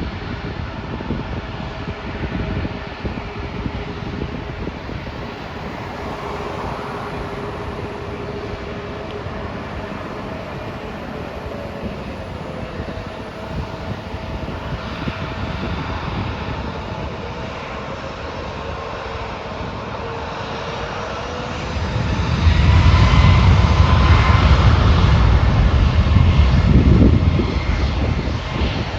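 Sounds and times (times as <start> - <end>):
airliner engines droning: 0.0 - 28.9.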